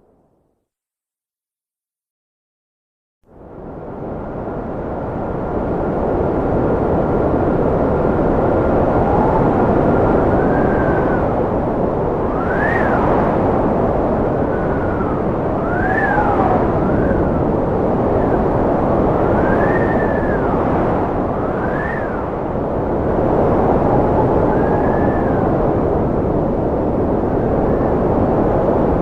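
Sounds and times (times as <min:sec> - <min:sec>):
wind blowing with whistling howl: 0:03.3 - 0:29.0.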